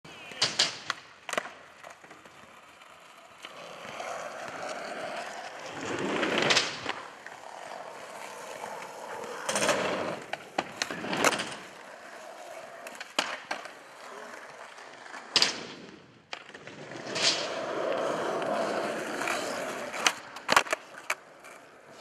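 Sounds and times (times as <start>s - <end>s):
skateboard clacking on ground: 0.1s - 22.0s
skateboard wheels rolling on asphalt: 0.1s - 22.0s.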